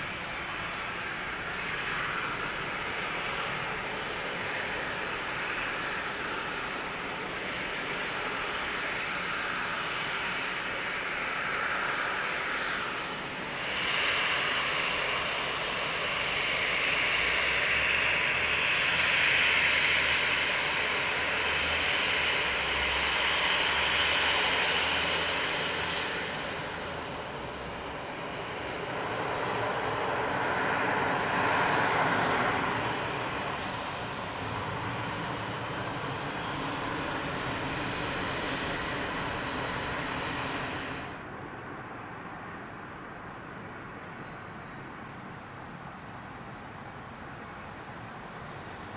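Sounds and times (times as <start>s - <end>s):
jet airliner engines at takeoff: 0.0s - 48.9s
jet airliner on runway: 0.0s - 48.9s.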